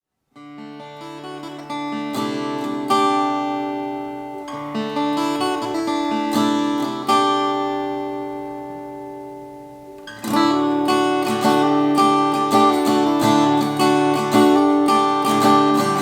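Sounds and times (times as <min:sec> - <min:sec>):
acoustic guitar chords and picking: 0:00.4 - 0:16.0.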